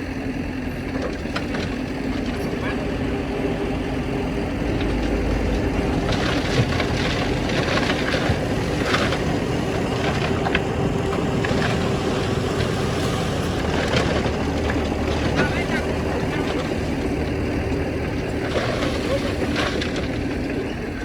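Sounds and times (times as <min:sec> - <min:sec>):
heavy machine engine running: 0:00.0 - 0:21.0
rattles and scrapes: 0:00.8 - 0:21.0.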